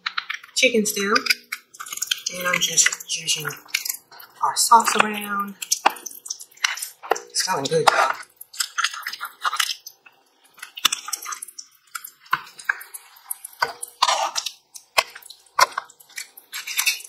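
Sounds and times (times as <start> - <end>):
gravy squelching and sloshing: 0.0 - 17.0
spatula scraping pan: 1.0 - 10.0, 10.6 - 17.0.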